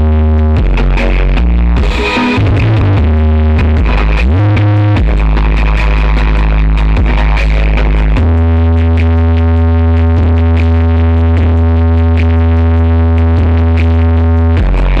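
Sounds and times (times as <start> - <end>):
deep synth bass note: 0.0 - 15.0
loud electronic dance music: 0.0 - 15.0.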